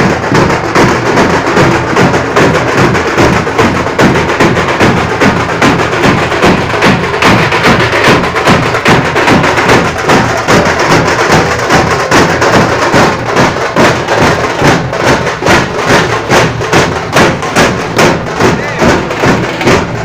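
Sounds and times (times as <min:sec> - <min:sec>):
dhol drums driving rhythm: 0:00.0 - 0:20.0.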